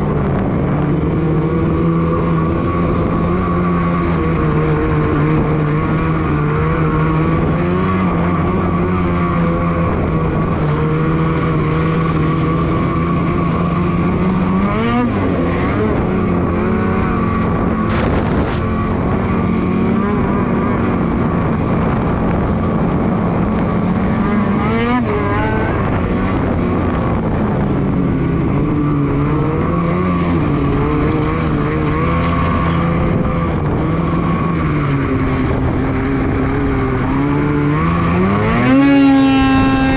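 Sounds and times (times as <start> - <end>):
snowmobile engine droning: 0.0 - 39.9.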